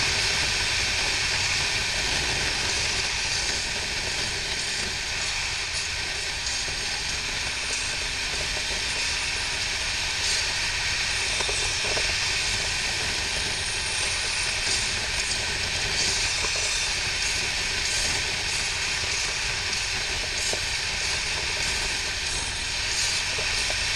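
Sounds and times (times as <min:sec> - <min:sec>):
motorcycle engine and tyres rumble: 0:00.0 - 0:23.9.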